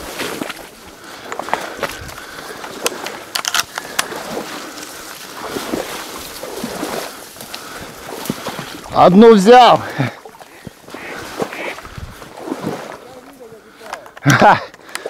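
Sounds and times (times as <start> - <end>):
reeds rustling against clothing: 0.0 - 14.0.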